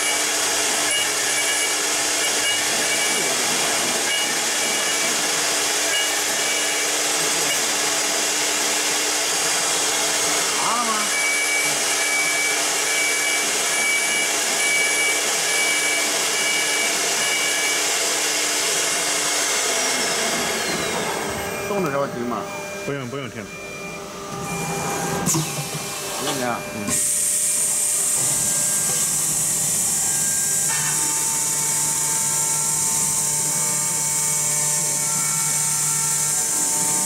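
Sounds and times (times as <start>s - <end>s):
router spindle hiss and whine: 0.0s - 37.0s.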